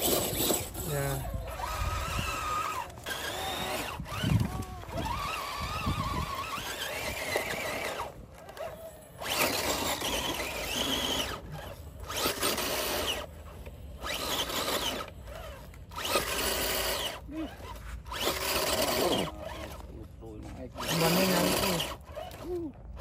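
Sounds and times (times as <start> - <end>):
toy car electric motor whining: 0.0 - 20.0, 20.6 - 23.0.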